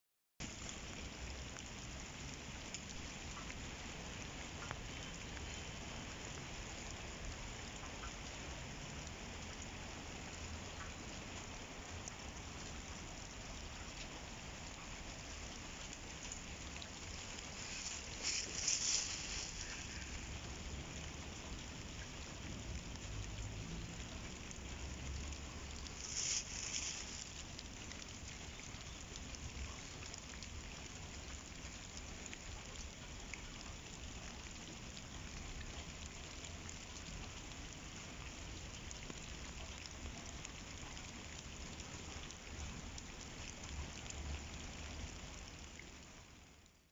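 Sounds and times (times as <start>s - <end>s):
rain on wet pavement: 0.4s - 46.9s.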